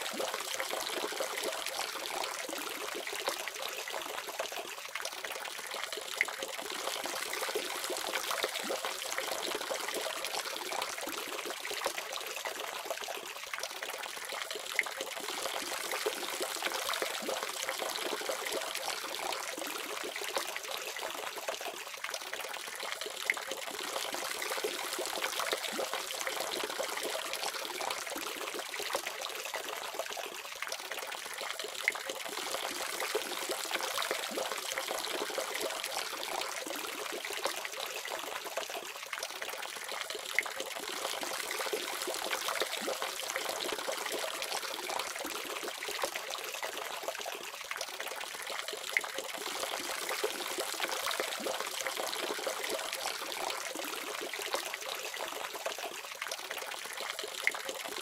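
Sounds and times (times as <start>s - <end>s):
small drips and splashes: 0.0s - 58.0s.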